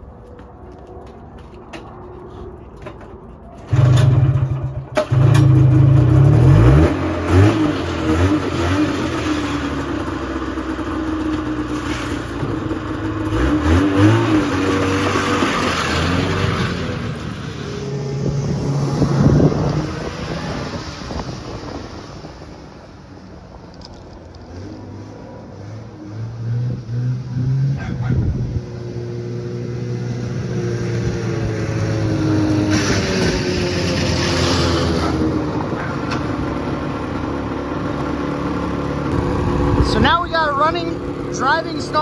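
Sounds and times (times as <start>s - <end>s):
snowmobile engine starting and revving: 3.7s - 22.5s, 25.8s - 42.0s.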